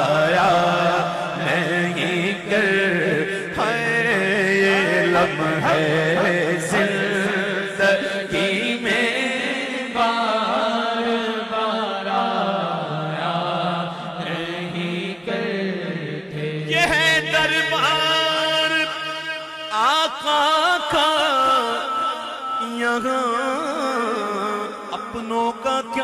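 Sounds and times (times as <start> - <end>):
man singing devotional song: 0.0 - 26.0.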